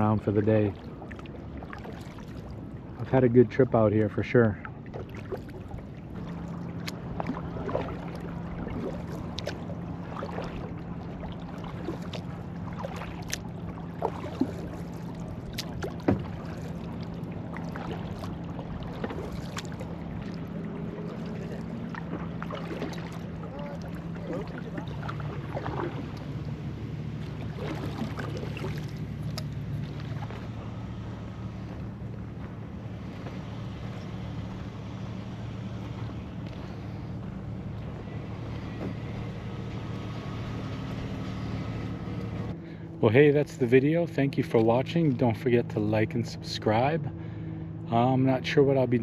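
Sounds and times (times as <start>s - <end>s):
small water splashes and drips: 0.0s - 42.8s
steady low hum: 0.0s - 49.0s.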